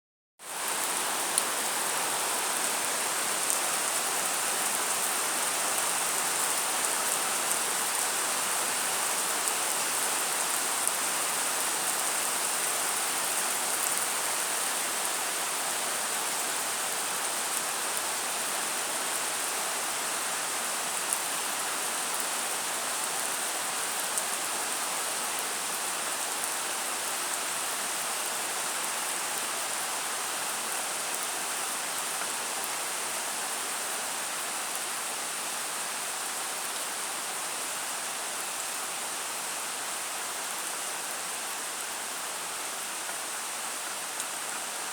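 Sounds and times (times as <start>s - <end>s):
rain falling: 0.4s - 44.9s.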